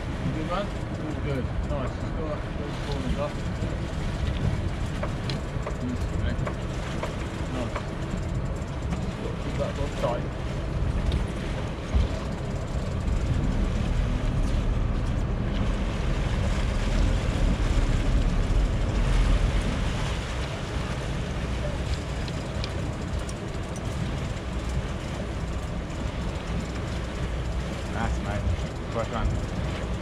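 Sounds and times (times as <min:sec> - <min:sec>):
boat engines rumbling: 0:00.0 - 0:30.0
propellers churning water: 0:00.0 - 0:30.0.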